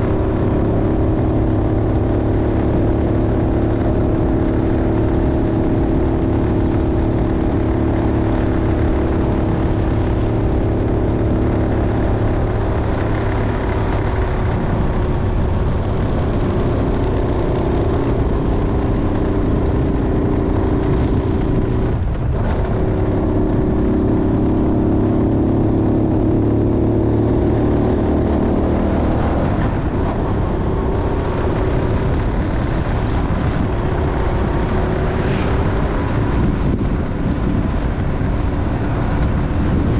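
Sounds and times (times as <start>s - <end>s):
continuous low rumble: 0.0s - 39.9s
motorcycle engine running: 0.0s - 39.9s.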